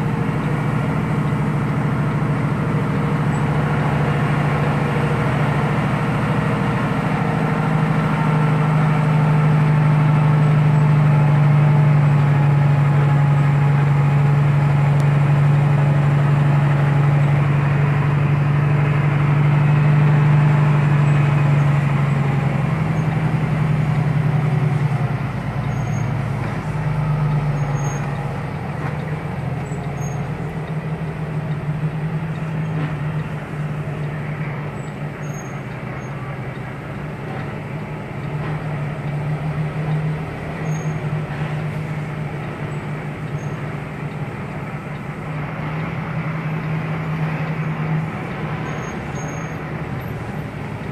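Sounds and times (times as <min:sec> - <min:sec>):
heavy truck diesel engine drone: 0:00.0 - 0:50.9.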